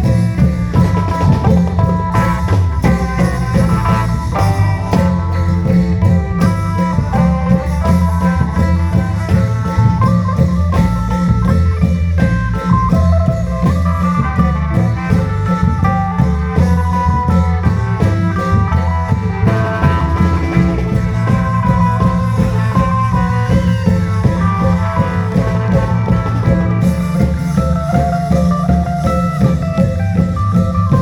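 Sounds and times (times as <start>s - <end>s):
long drums beating: 0.0s - 31.0s
reed melody: 0.0s - 31.0s.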